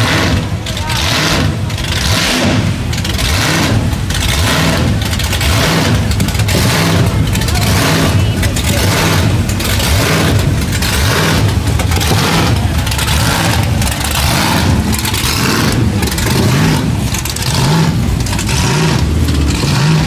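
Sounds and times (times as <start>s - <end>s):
car engine revving: 0.0s - 20.0s
loud steady rushing noise: 0.0s - 20.0s.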